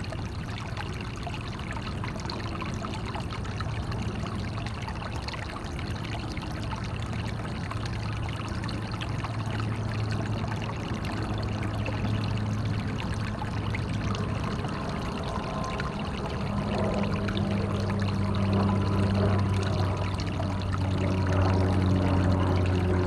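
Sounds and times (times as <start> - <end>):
constant low hum: 0.0 - 23.0
stream water flowing: 0.0 - 23.0.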